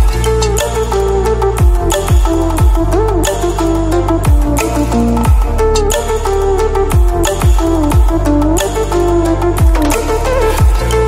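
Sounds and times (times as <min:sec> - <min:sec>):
deep bass kicks dropping in pitch: 0:00.0 - 0:11.0
electronic music: 0:00.0 - 0:11.0.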